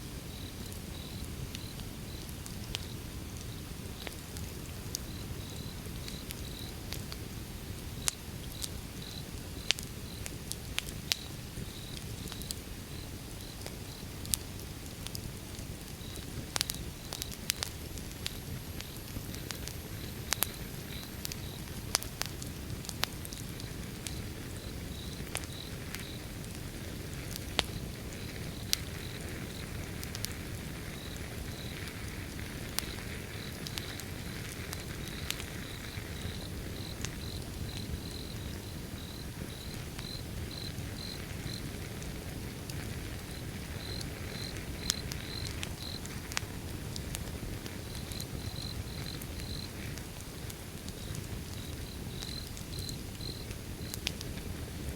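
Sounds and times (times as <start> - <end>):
wood fire crackling: 0.0 - 54.9
crickets chirping: 0.2 - 3.7, 5.1 - 6.8, 7.5 - 10.3, 11.2 - 14.2, 16.0 - 21.9, 23.4 - 50.4, 51.0 - 54.0.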